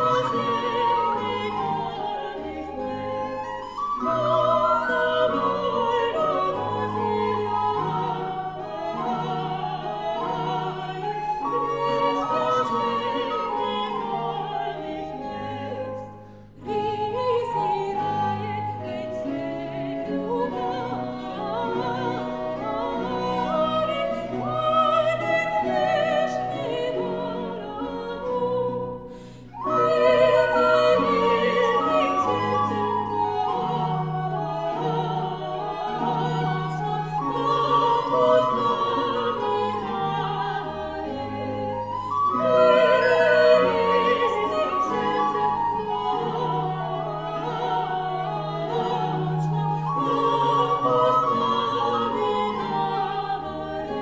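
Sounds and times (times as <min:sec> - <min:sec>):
orchestral accompaniment: 0:00.0 - 0:54.0.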